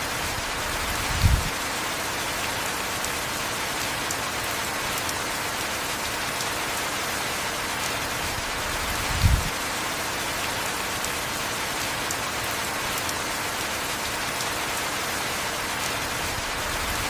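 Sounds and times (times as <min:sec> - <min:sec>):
heavy rainfall: 0:00.0 - 0:17.0.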